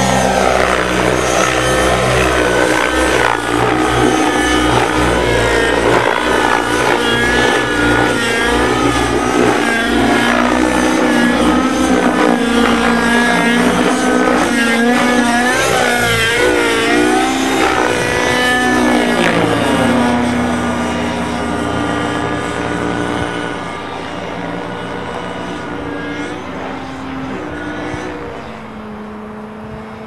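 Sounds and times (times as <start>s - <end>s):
model helicopter engine running: 0.0s - 30.0s.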